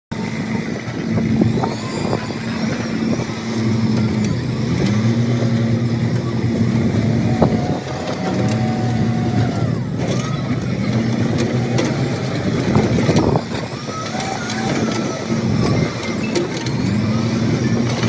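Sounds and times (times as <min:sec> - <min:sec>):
excavator diesel engine running: 0:00.1 - 0:18.0.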